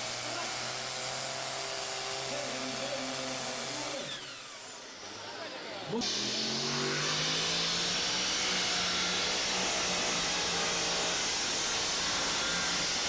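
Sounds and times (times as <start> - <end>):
engine roaring at full throttle: 0.0 - 13.0.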